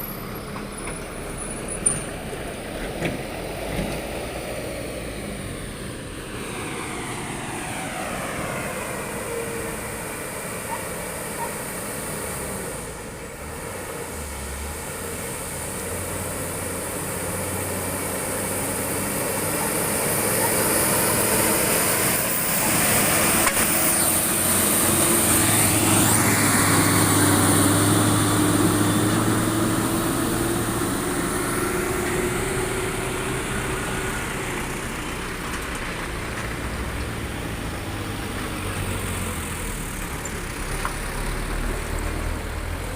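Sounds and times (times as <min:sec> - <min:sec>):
heavy truck engines: 0:00.0 - 0:42.9.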